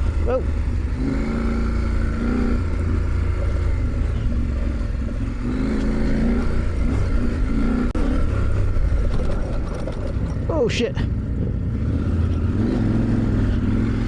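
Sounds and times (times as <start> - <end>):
motorcycle engine: 0.0 - 14.0
wind and tyre noise: 0.0 - 14.0.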